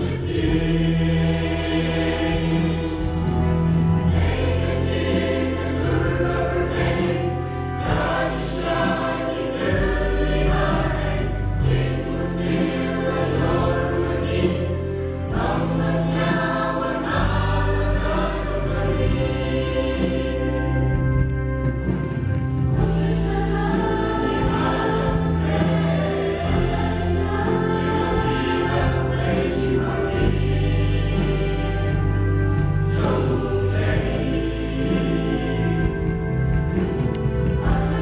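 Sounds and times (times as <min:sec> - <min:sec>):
choir singing: 0:00.0 - 0:38.0
held bass notes: 0:00.0 - 0:38.0.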